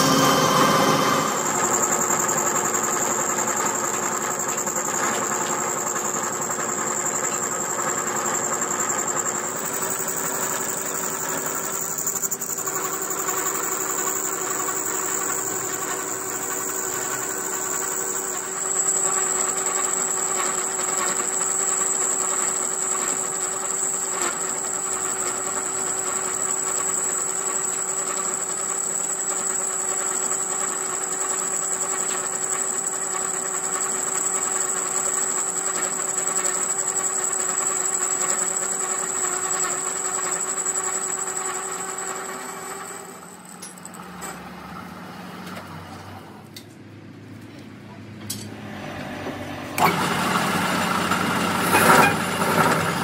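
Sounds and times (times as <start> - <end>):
metal lathe whine: 0.0 - 46.0, 48.6 - 53.0.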